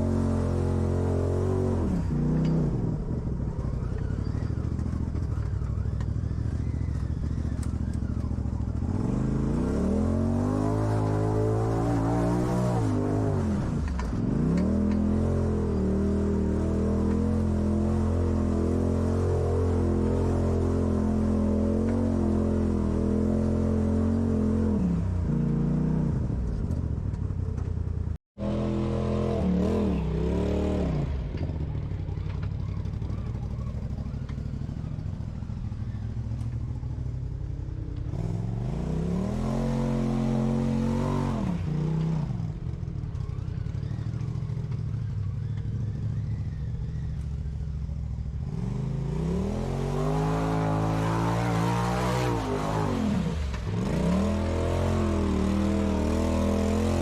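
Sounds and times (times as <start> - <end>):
off-road vehicle engine revving: 0.0 - 26.8, 28.4 - 57.0.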